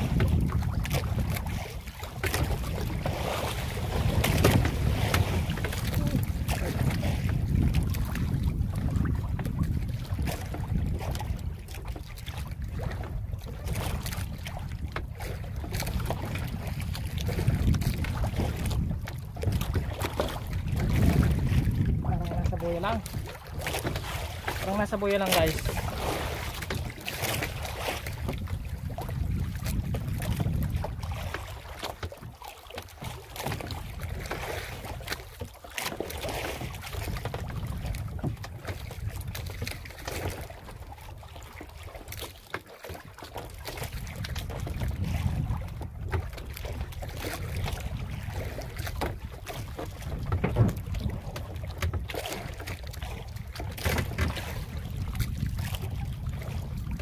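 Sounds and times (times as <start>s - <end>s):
wind buffeting microphone: 0.0s - 35.4s, 36.1s - 42.3s, 42.9s - 57.0s
water lapping against boat: 0.0s - 57.0s.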